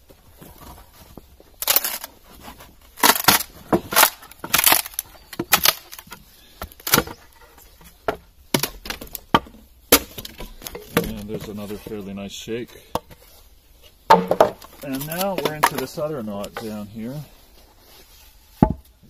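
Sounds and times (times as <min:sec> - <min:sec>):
wood splitting and crackling: 0:00.0 - 0:12.0, 0:12.6 - 0:19.0.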